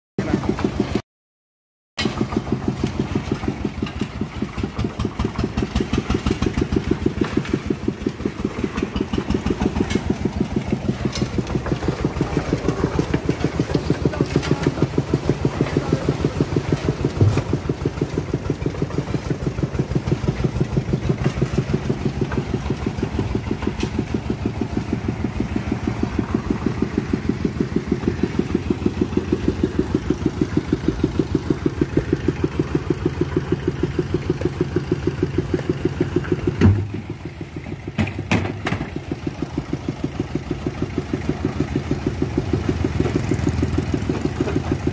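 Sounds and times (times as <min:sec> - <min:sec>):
concrete mixer diesel engine chugging: 0:00.2 - 0:01.0, 0:02.0 - 0:44.9.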